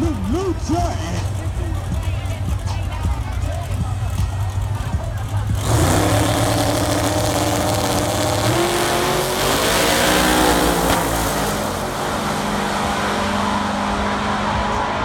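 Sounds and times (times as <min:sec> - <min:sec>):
race car engines at full throttle: 0:00.0 - 0:15.0.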